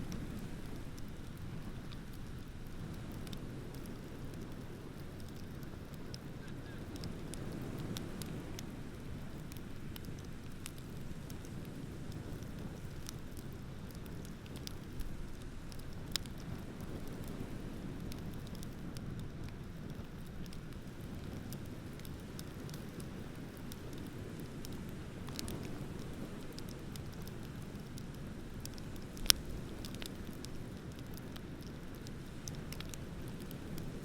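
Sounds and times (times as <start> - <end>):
sharp fire pops: 0.0 - 34.0
wood fire crackling: 0.0 - 34.0.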